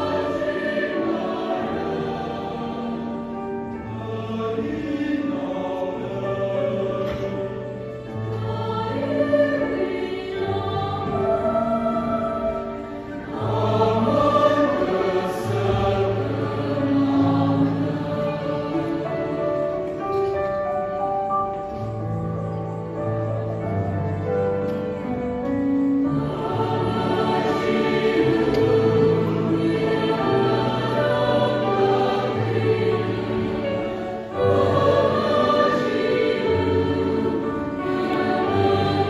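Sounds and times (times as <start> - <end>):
choir singing a hymn: 0.0 - 39.0.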